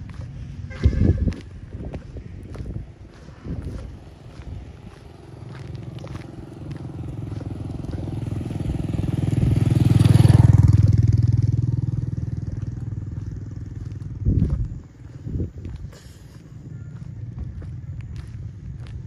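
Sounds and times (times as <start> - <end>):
motorcycle passing by: 0.0 - 15.6, 16.3 - 19.0.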